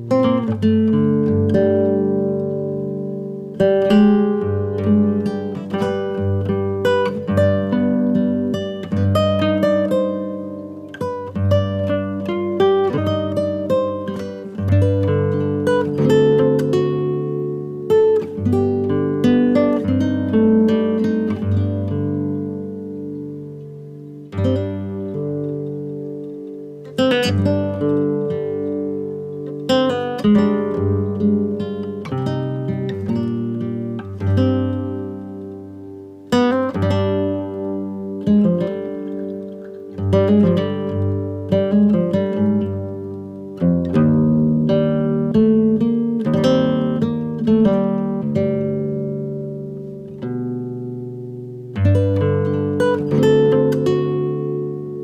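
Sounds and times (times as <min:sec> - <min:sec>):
acoustic guitar picking: 0:00.0 - 0:55.0
plucked string instrument music: 0:00.0 - 0:55.0.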